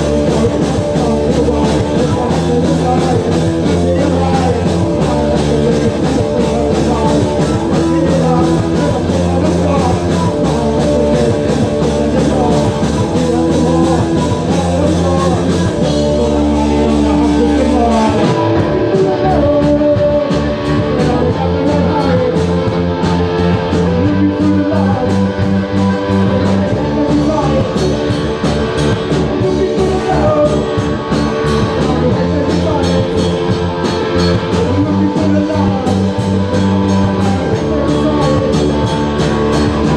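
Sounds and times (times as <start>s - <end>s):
bass guitar: 0.0s - 39.9s
drum kit: 0.0s - 39.9s
electric guitar: 0.0s - 39.9s
person singing: 0.0s - 39.9s.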